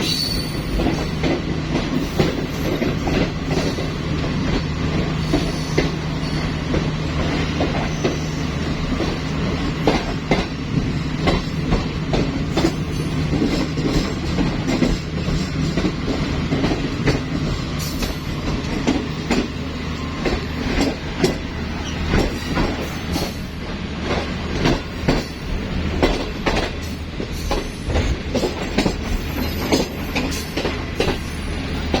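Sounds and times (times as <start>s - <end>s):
train low rumble: 0.0s - 32.0s
train wheels clattering: 0.0s - 32.0s.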